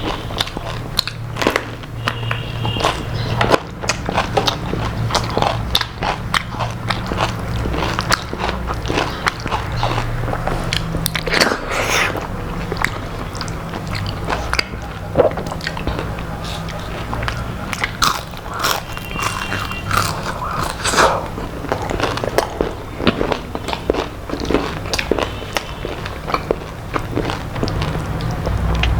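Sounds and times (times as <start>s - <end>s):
person chewing crispy food: 0.0s - 28.9s.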